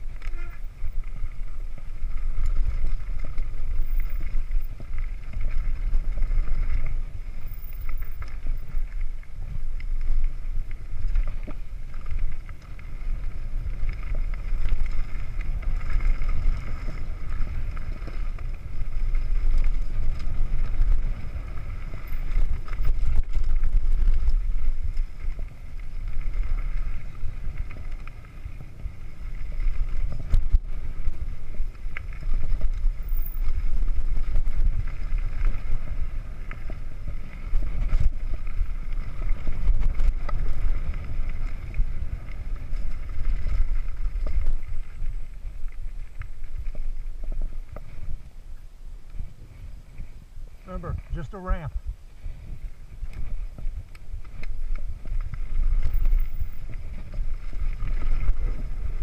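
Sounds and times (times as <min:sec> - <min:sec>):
tyre noise on dirt: 0:00.0 - 0:59.0
wind buffeting microphone: 0:00.0 - 0:59.0.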